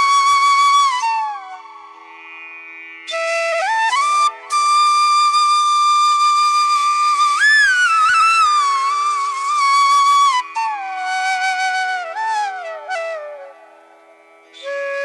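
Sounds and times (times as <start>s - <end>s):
flute long note: 0.0s - 2.1s, 3.1s - 13.9s, 14.6s - 15.0s.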